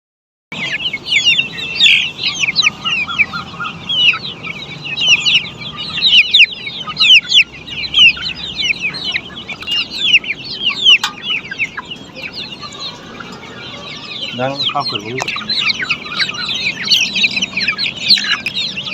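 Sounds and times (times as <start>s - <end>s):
chicks peeping: 0.5s - 18.9s.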